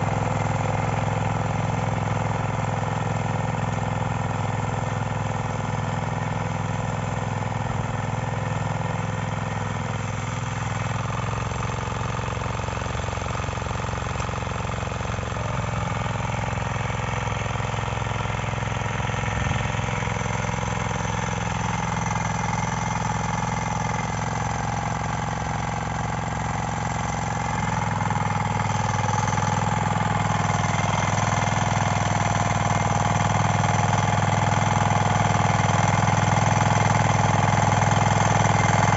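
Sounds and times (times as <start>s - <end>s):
power weeder engine running: 0.0s - 38.9s.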